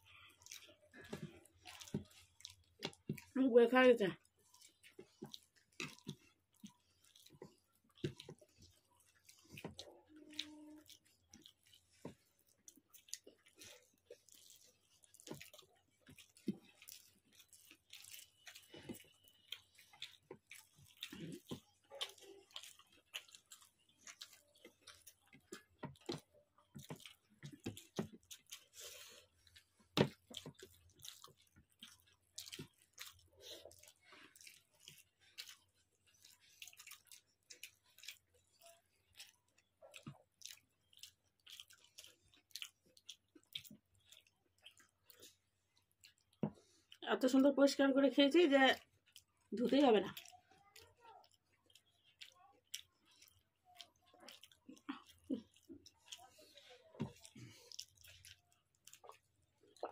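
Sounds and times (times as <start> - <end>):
chewing and mouth noises: 0.0 - 59.9.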